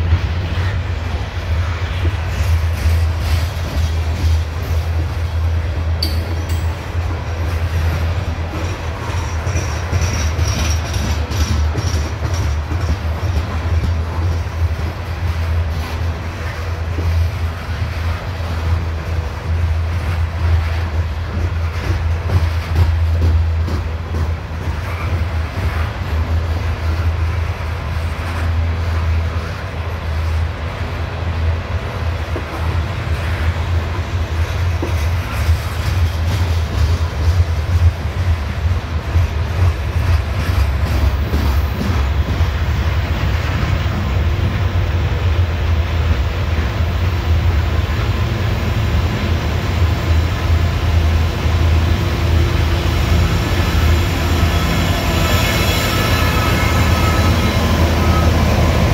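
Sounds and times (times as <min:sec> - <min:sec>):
diesel locomotive engine tones: 0:00.0 - 0:58.9
wheels rumbling on rail: 0:00.0 - 0:58.9.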